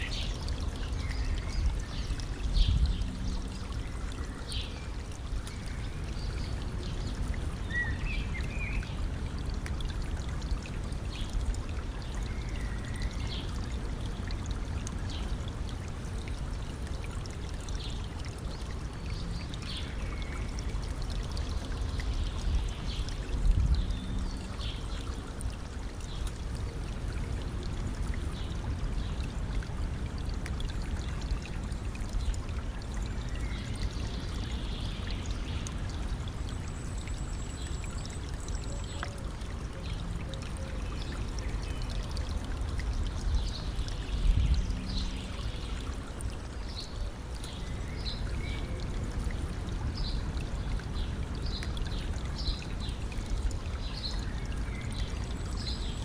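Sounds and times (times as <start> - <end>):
river stream running: 0.0 - 56.0.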